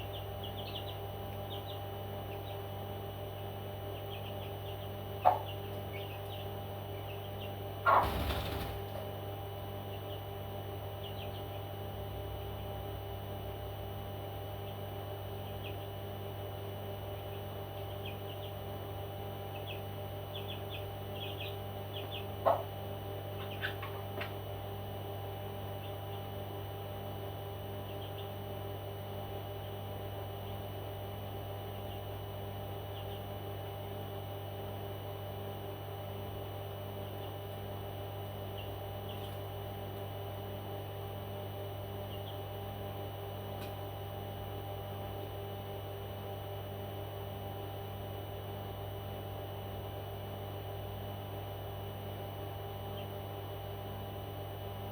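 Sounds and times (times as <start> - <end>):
electrical hum: 0.0 - 54.9.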